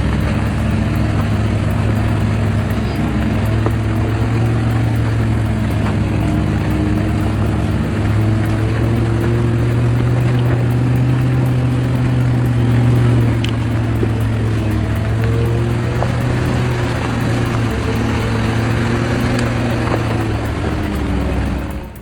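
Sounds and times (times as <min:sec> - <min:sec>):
heavy vehicle engine humming: 0:00.0 - 0:22.0.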